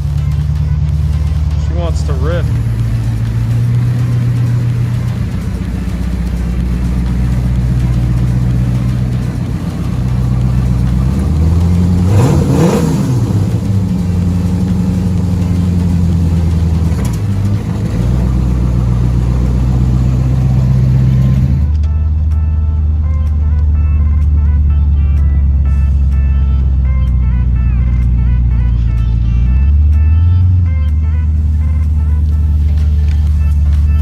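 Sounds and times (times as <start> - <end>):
car engine running and revving: 0.0 - 34.0.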